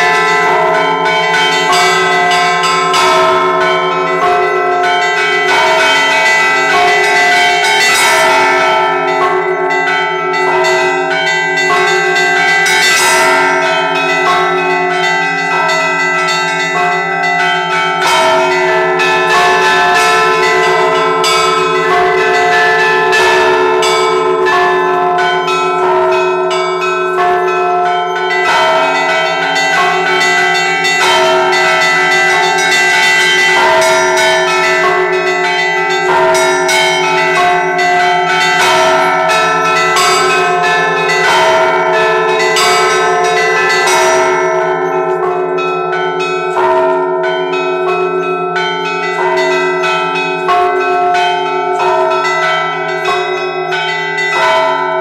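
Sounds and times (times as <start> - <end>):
large bells humming: 0.0 - 55.0
middle bell ringing: 0.0 - 55.0
small church bells striking quickly: 0.0 - 55.0.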